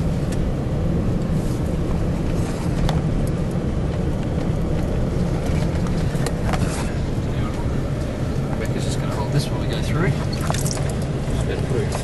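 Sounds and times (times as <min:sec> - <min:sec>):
engine and road noise in cabin: 0:00.0 - 0:12.0.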